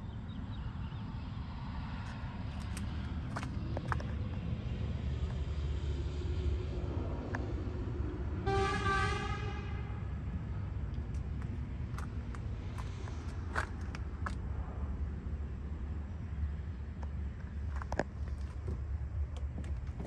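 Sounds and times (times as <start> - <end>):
steady low rumble: 0.0 - 8.5, 9.8 - 20.0.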